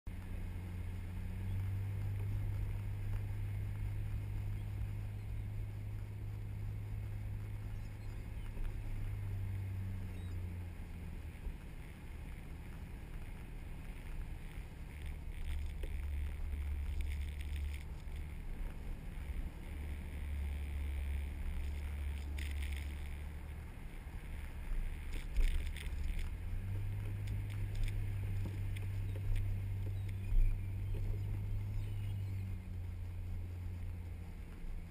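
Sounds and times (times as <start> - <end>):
vehicle engine droning: 0.1 - 34.9.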